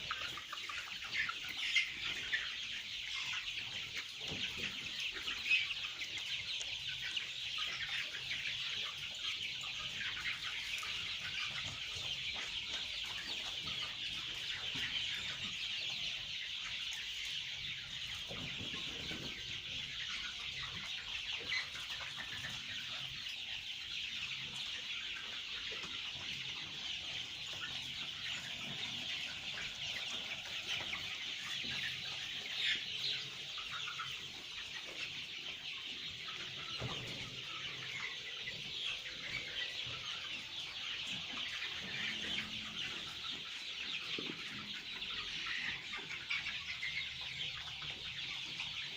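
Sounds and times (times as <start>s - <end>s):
flock of chickens clucking: 0.0s - 48.9s.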